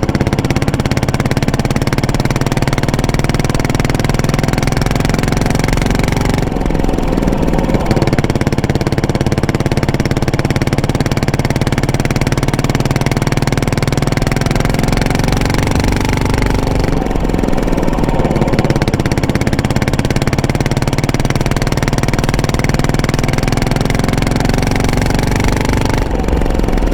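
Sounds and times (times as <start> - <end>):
motorcycle engine thumping: 0.0 - 26.9.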